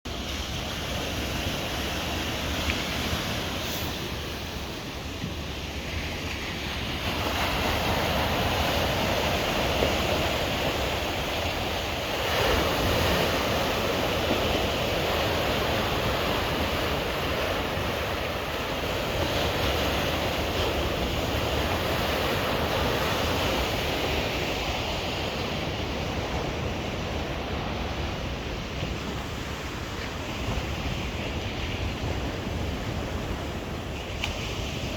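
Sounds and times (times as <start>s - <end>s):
sea waves washing onto shore: 0.1s - 34.9s.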